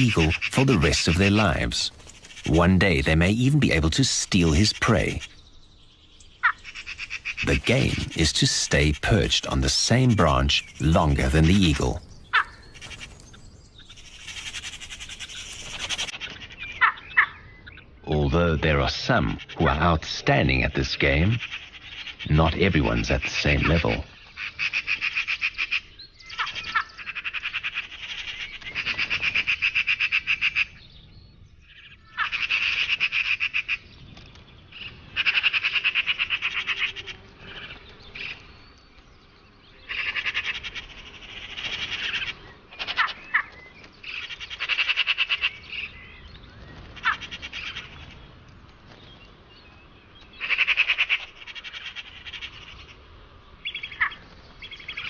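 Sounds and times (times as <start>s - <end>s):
magpies chattering: 0.0s - 31.0s, 31.6s - 55.0s.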